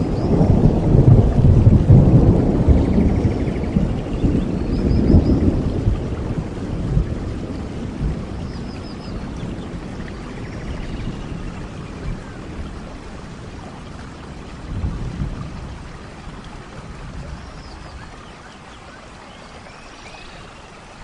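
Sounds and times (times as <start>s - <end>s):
low rumble of thunder: 0.0s - 18.4s
steady rain in a forest: 0.0s - 21.0s.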